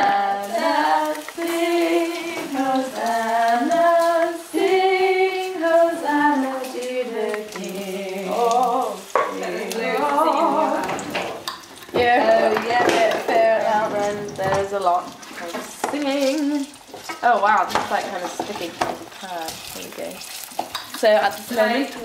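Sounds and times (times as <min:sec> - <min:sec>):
woman singing: 0:00.0 - 0:11.3, 0:11.9 - 0:18.4, 0:21.0 - 0:22.0
food sizzling in a pan: 0:00.0 - 0:22.0.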